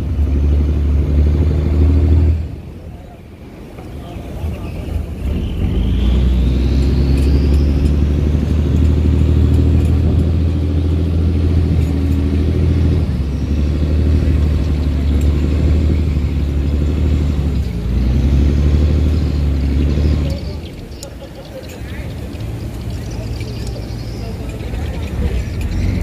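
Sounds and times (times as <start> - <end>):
boat diesel engine running hard: 0.0 - 26.0.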